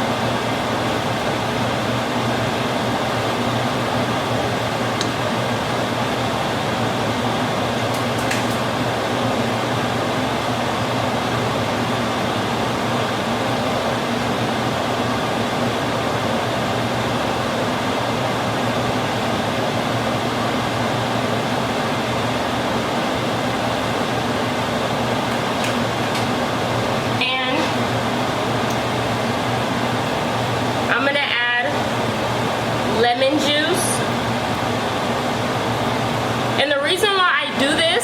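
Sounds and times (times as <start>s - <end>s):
whirring fan with low hum: 0.0s - 38.0s.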